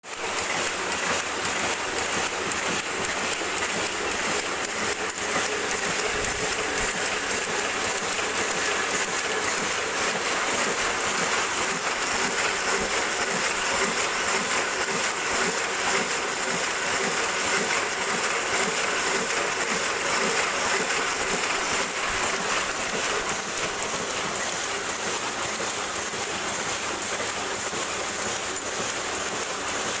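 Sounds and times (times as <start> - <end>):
printing press running: 0.0 - 30.0.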